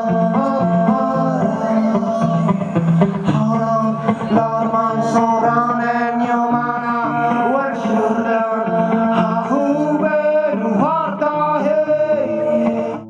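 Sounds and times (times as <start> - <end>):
electric guitar: 0.0 - 13.0
man singing into a microphone: 0.0 - 13.0.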